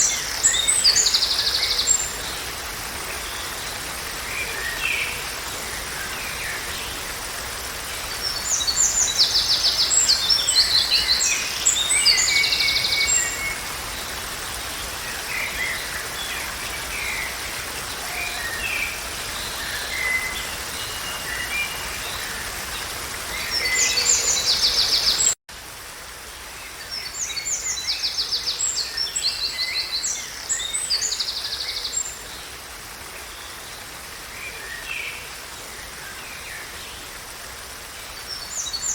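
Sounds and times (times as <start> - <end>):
outdoor background hiss: 0.0 - 38.9.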